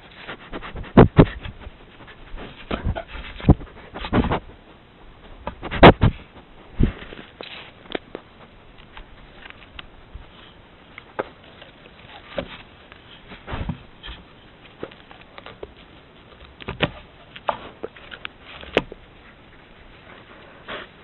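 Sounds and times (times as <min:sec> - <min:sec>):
wolf snuffling: 0:00.0 - 0:21.0.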